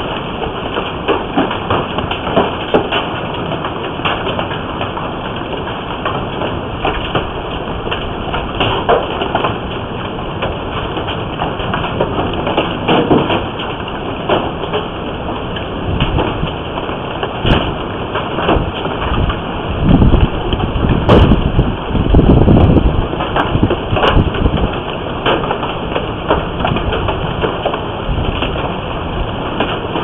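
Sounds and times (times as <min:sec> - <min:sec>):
hail clattering: 0:00.0 - 0:30.0
heavy rain pounding: 0:00.0 - 0:30.0.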